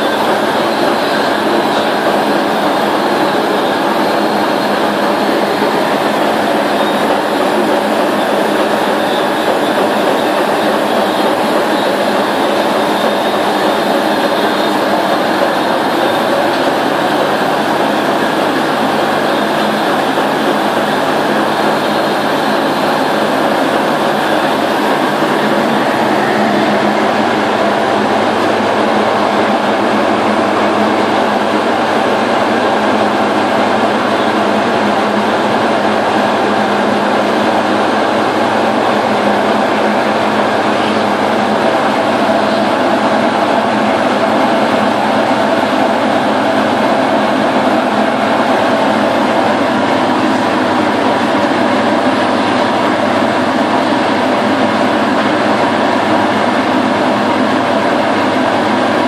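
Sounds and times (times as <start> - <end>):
printing press running: 0.0 - 59.0.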